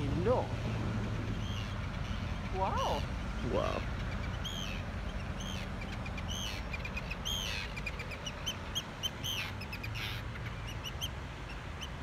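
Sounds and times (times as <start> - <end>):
tern calling: 0.0 - 12.0.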